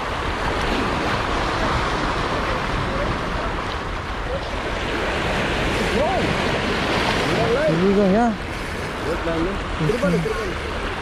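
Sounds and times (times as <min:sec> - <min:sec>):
waves breaking over rocks: 0:00.0 - 0:11.0
wind noise on microphone: 0:00.0 - 0:11.0.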